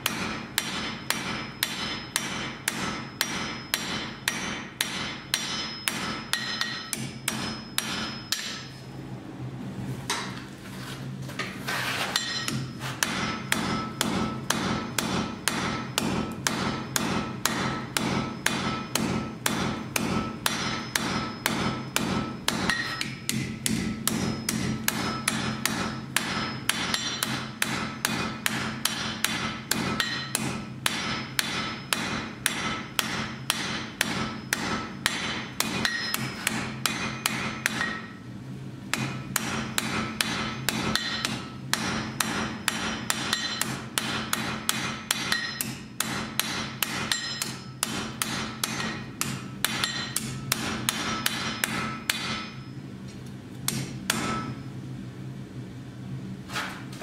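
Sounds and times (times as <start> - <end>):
hammer striking iron on anvil: 0.0 - 8.8, 10.1 - 10.3, 12.1 - 38.2, 38.9 - 52.8, 53.7 - 54.7
steady low hum: 0.0 - 57.0.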